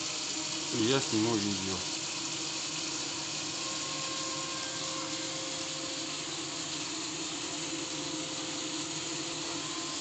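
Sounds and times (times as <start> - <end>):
boiler fan and burner rushing: 0.0 - 10.0.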